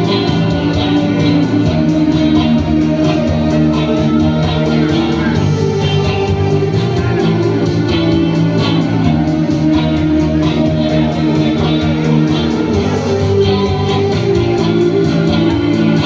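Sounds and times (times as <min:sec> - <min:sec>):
guitar music over a beat: 0:00.0 - 0:16.0.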